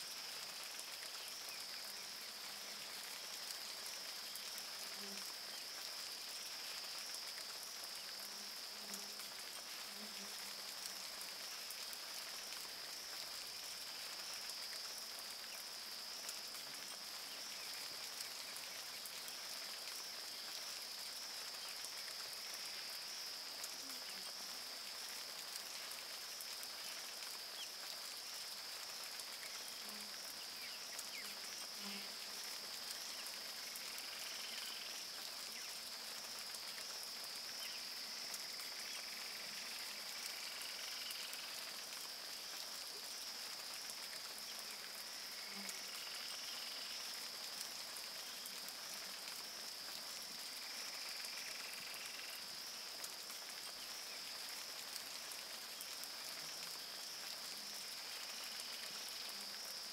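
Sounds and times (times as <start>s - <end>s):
light patter of rain: 0.0s - 59.9s.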